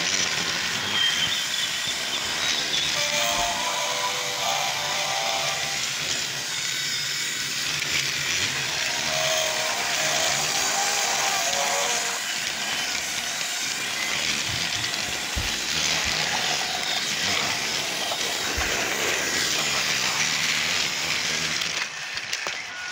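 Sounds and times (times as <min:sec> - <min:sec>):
toy train motor whirring: 0:00.0 - 0:22.9.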